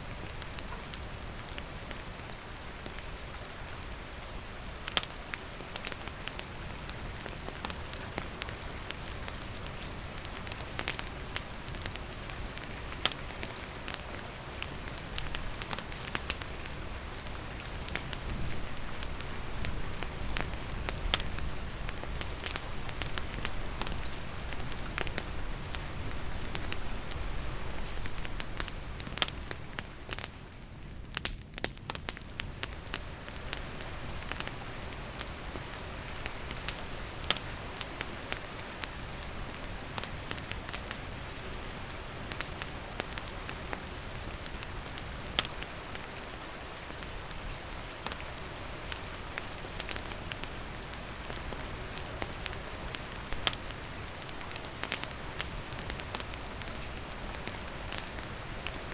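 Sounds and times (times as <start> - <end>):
campfire crackling and popping: 0.0 - 58.9
steady rain falling: 0.0 - 58.9.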